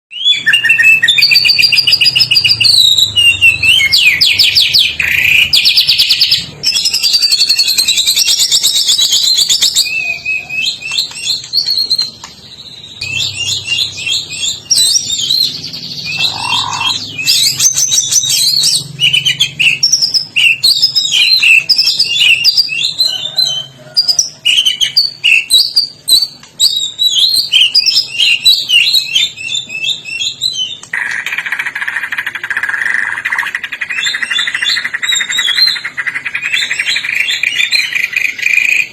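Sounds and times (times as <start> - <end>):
bird singing varied whistles and trills: 0.1 - 38.9.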